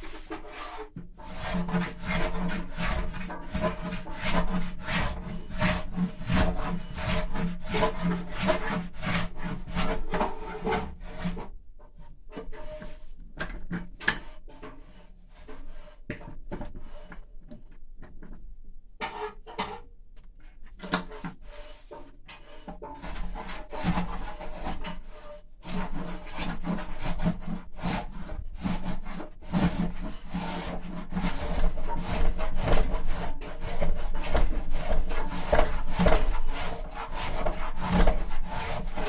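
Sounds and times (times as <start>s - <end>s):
carving tool scraping wood: 0.1s - 11.5s, 14.1s - 16.0s, 21.1s - 39.0s.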